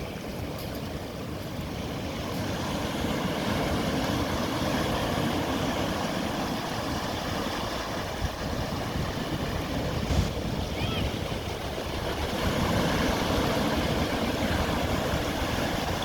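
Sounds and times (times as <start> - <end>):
ocean surf washing in: 1.0 - 16.0.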